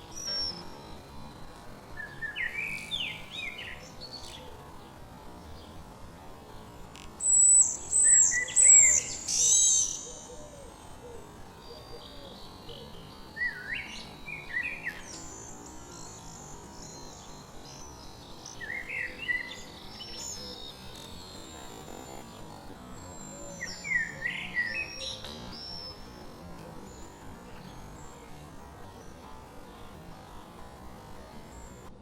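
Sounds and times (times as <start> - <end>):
songbirds chirping: 0.0 - 31.9
faint steady high hiss: 0.0 - 32.0.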